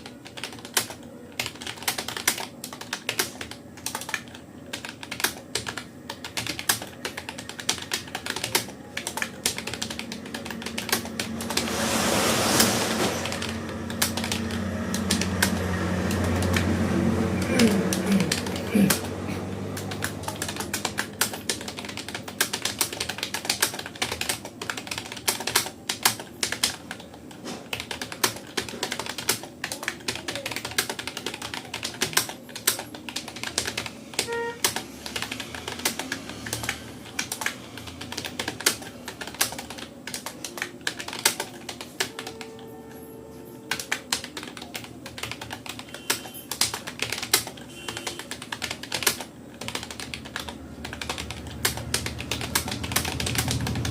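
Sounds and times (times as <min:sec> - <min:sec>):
keyboard typing: 0:00.0 - 0:53.9.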